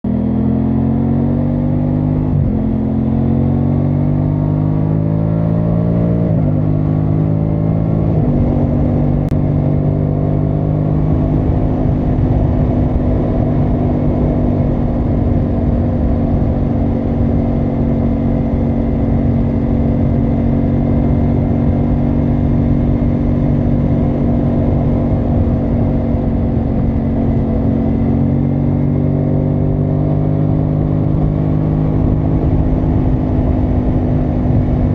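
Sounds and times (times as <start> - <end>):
motorcycle engine shifting gears: 0.1 - 34.9.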